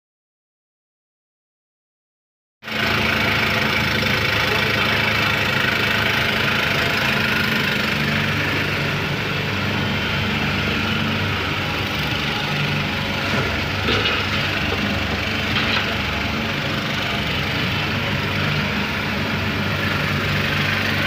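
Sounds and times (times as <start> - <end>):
excavator diesel engine running: 2.6 - 21.0.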